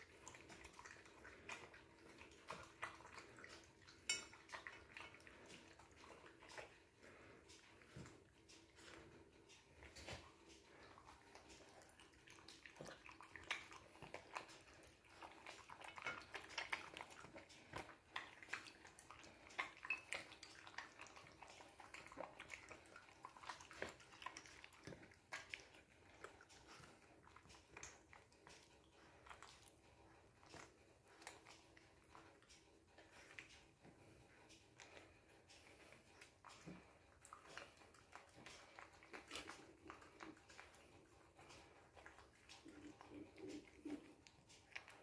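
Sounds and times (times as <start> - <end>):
teeth clicking on plate: 0.0 - 45.0.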